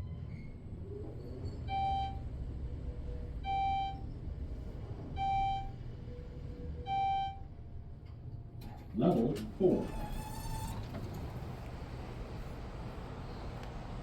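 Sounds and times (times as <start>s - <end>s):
elevator low hum: 0.0s - 14.0s.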